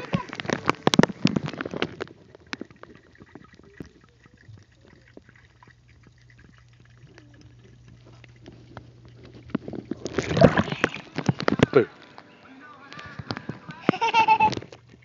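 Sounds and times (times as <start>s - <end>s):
underwater clicks and bubbling: 0.0s - 12.3s, 12.9s - 15.0s
underwater low hum: 0.0s - 12.4s
water splashing: 0.0s - 15.0s.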